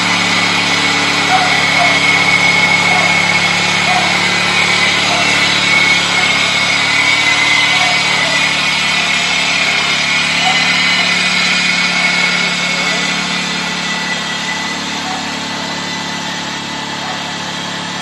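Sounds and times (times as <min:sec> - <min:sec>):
high whine: 0:00.0 - 0:18.0
lawn tractor engine running: 0:00.0 - 0:18.0.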